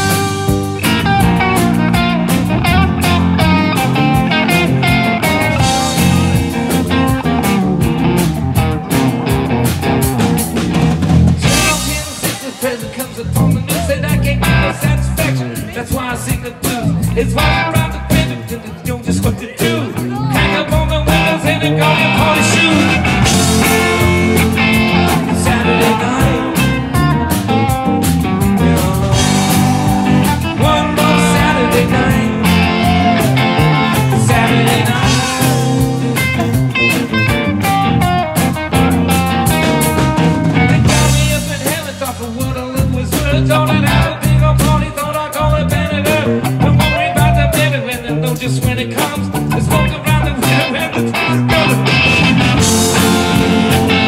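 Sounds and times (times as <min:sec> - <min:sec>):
drum kit: 0:00.0 - 0:54.0
electric guitars: 0:00.0 - 0:54.0
keyboard: 0:00.0 - 0:54.0.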